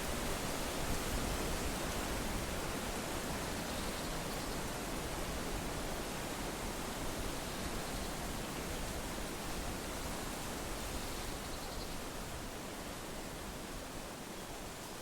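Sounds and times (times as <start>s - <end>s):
wind rustling leaves: 0.0s - 15.0s.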